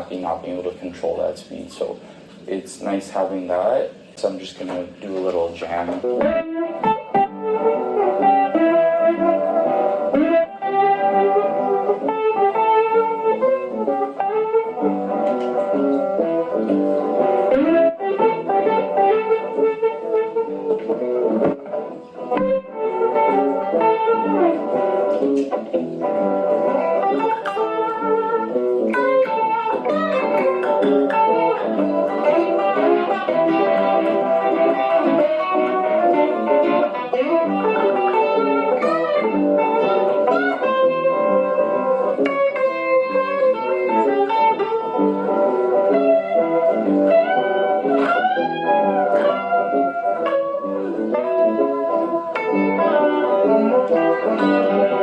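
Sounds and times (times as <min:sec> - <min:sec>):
electric guitar blues jam: 0:00.0 - 0:55.0.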